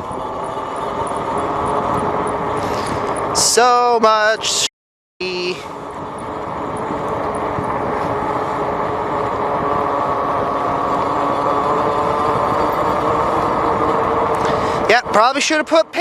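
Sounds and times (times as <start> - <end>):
small motorbike engine running: 0.0 - 4.3, 5.3 - 16.0.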